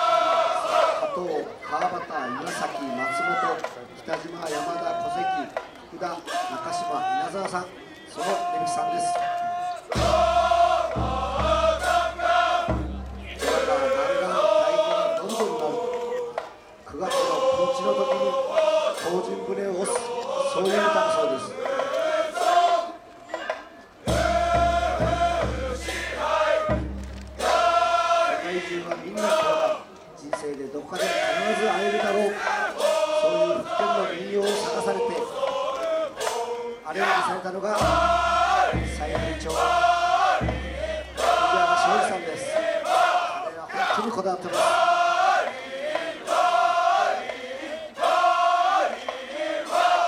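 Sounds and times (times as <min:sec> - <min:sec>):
men singing in unison: 0:00.0 - 0:02.7, 0:07.2 - 0:50.0
group of voices chanting: 0:00.0 - 0:50.0.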